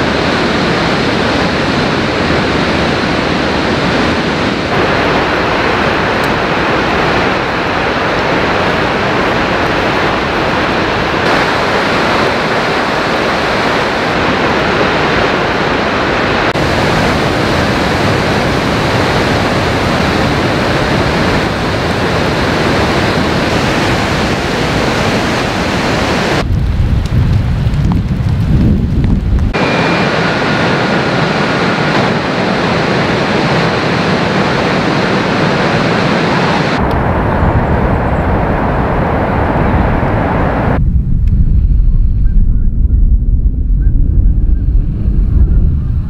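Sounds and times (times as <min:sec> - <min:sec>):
waterfall roaring: 0:00.0 - 0:26.5, 0:29.5 - 0:40.8
wind rumbling on microphone: 0:00.0 - 0:46.0.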